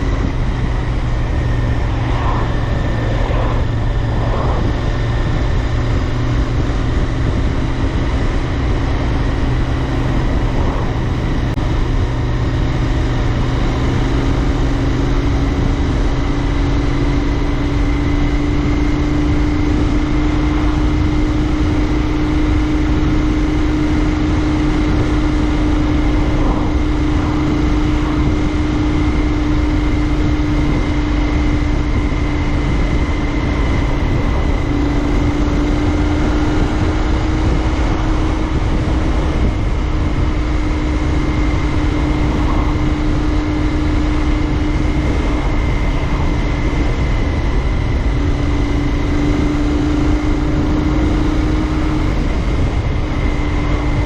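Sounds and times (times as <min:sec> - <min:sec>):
motorcycle engine cruising: 0:00.0 - 0:54.0
wind rumble on microphone: 0:00.0 - 0:54.0.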